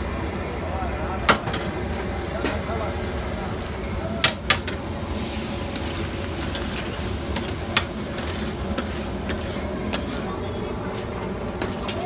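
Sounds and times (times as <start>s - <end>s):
meat sizzling on griddle: 1.4s - 12.0s.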